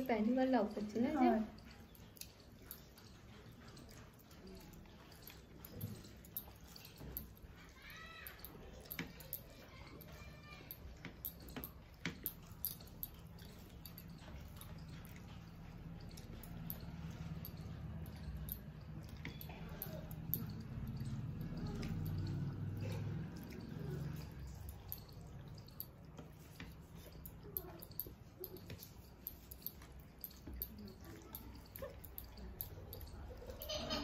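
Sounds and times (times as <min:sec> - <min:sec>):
wet squishing of food: 0:00.0 - 0:34.0.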